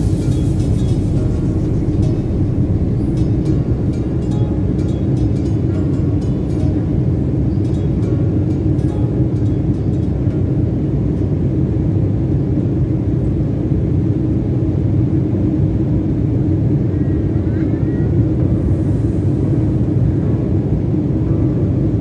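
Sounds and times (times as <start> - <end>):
airliner engines and airflow rumble: 0.0 - 22.0.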